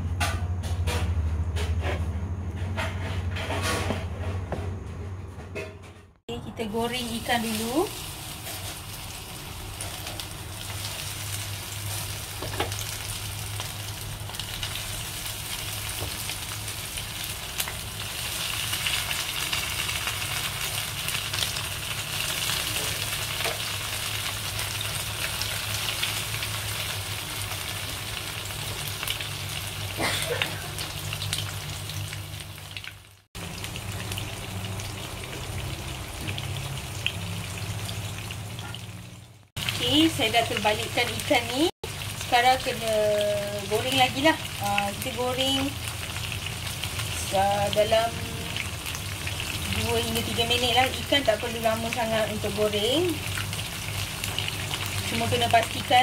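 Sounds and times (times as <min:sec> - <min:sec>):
fish frying in hot oil: 0:07.0 - 0:56.0.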